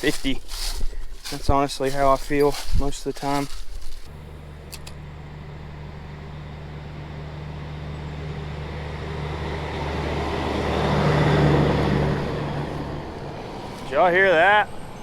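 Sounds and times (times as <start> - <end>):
heavy diesel machinery rumble: 0.0 - 15.0.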